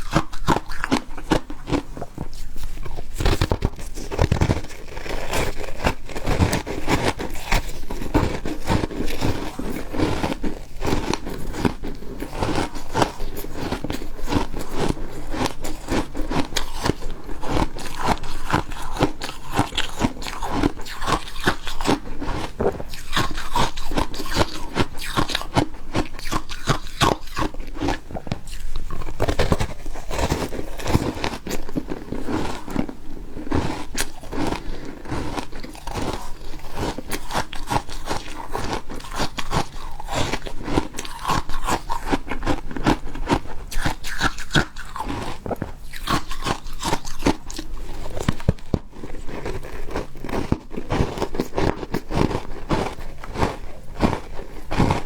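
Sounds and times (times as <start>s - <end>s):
chewing crunching ice: 0.0s - 55.0s.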